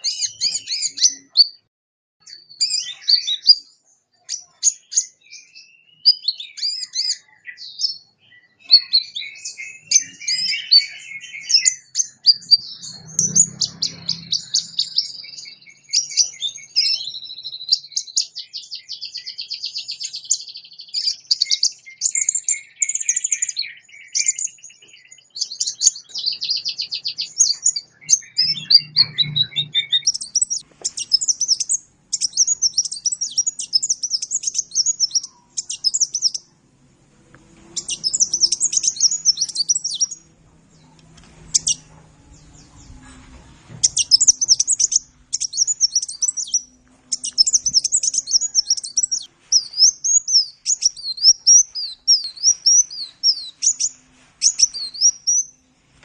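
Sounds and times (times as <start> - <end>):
bird chirps and trills: 0.0 - 36.6, 37.6 - 55.6.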